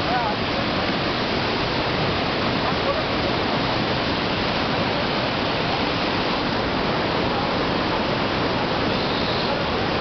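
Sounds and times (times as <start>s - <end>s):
waterfall rushing over rocks: 0.0s - 10.0s.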